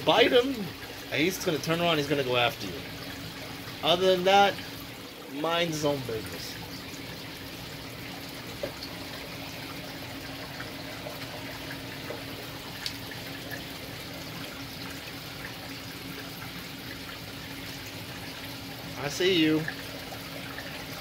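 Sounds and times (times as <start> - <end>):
aquarium water trickling: 0.0 - 21.0
low pump hum: 0.0 - 21.0.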